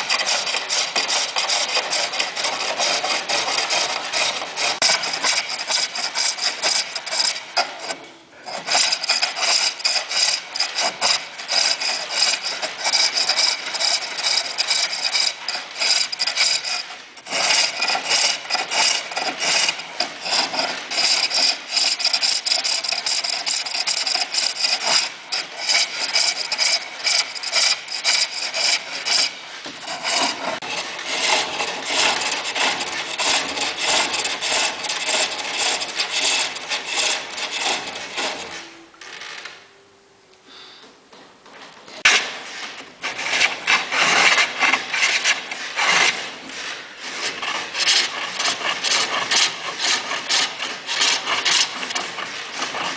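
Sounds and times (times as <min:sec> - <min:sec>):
lathe tool scraping workpiece: 0:00.0 - 0:38.8, 0:42.0 - 0:52.9.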